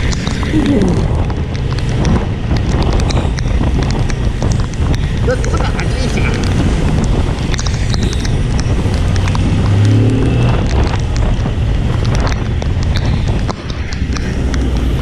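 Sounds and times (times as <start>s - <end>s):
tyres on wet road: 0.0s - 15.0s
wind noise on microphone: 0.0s - 15.0s.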